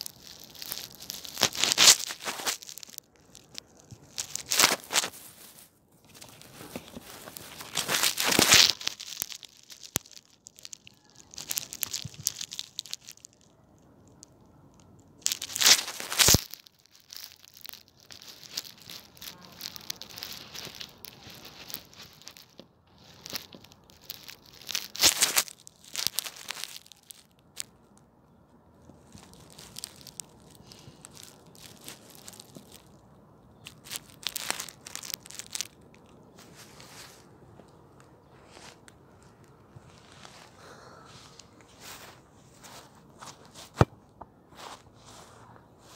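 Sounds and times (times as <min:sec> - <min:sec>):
grass crackling against microphone: 0:00.0 - 0:45.9.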